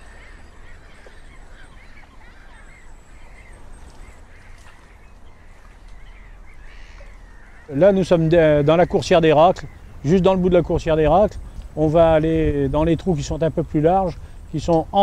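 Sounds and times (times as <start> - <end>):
birds chirping: 0.0 - 15.0
wind rumble on microphone: 0.0 - 15.0.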